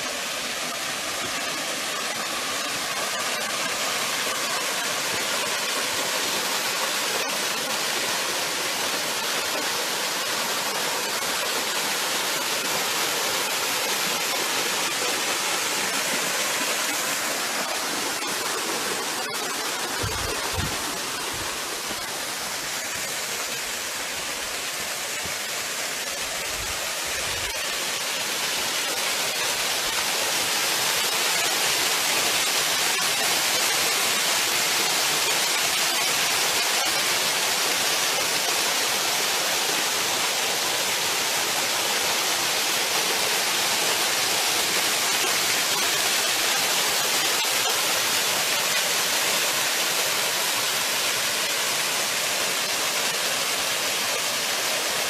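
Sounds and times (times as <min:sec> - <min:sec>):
small waterfall pouring: 0:00.0 - 0:55.0.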